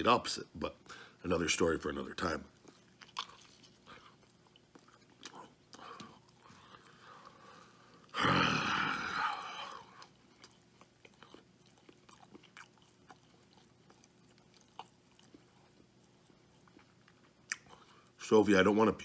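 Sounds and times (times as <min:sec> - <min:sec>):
man chewing food: 0:01.8 - 0:18.2.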